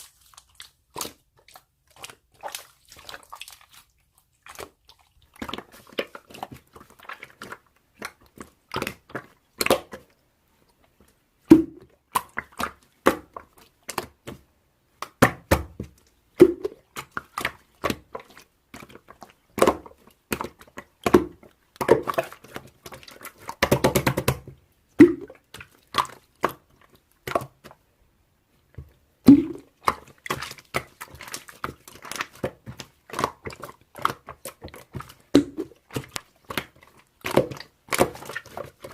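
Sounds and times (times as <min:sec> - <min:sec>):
slime squelching: 0:00.0 - 0:38.9.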